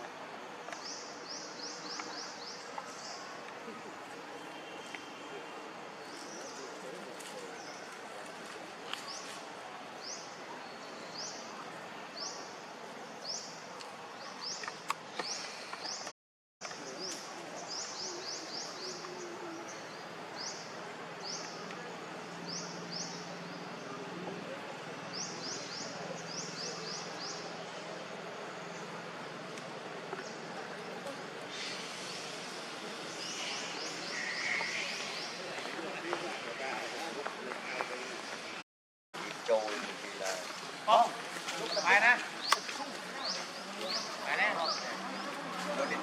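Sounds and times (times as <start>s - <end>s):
outdoor background hiss: 0.0s - 38.6s, 39.2s - 46.0s.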